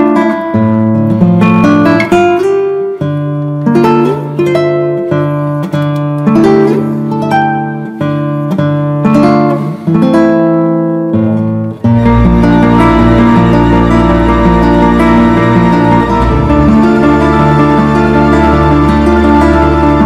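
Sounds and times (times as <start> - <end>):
acoustic guitar plucked notes: 0.0 - 20.0.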